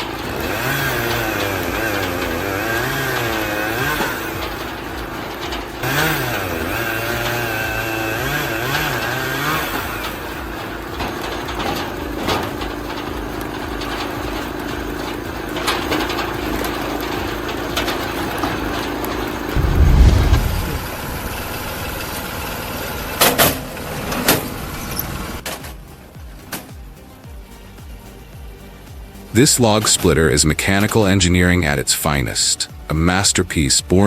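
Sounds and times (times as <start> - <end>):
log splitter engine running: 0.0 - 34.0.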